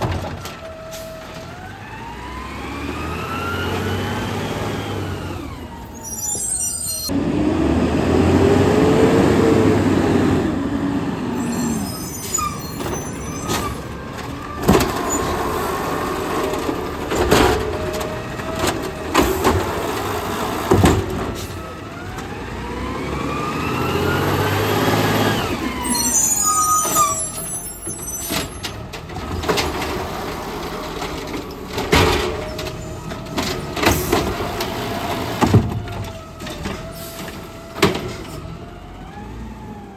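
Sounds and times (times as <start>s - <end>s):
garbage truck engine revving: 0.0s - 39.9s.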